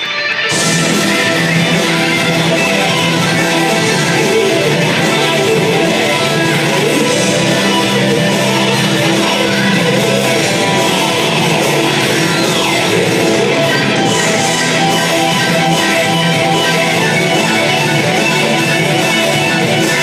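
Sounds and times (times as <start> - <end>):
rock music with strummed guitars: 0.0 - 20.0.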